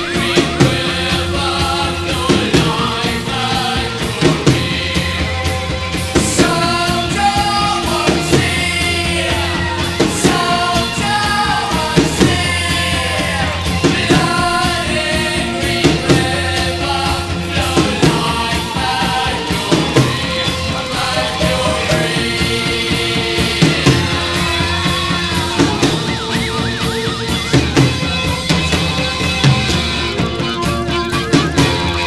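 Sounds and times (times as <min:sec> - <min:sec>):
person singing lead vocal: 0:00.0 - 0:32.0
post-punk rock band playing: 0:00.0 - 0:32.0.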